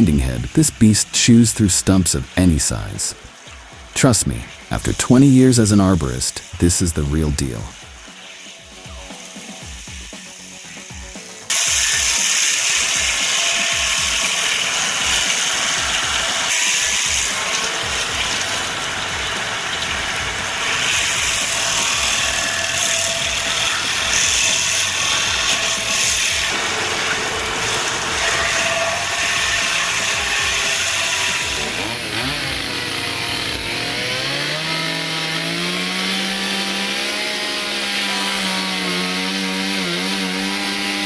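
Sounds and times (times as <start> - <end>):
background music with low beat: 0.0 - 37.4
cutting machine grinding: 0.0 - 41.0.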